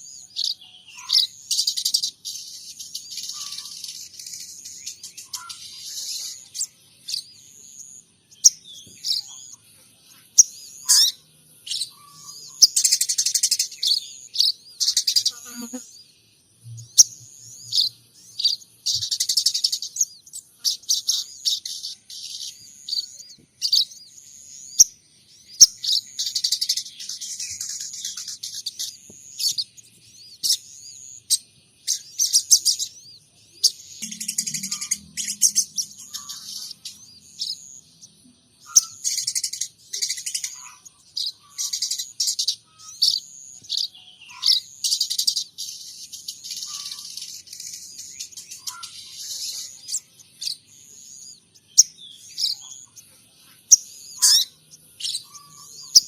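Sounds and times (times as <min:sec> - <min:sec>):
songbird chirps and buzzy trills: 0:00.0 - 0:56.0.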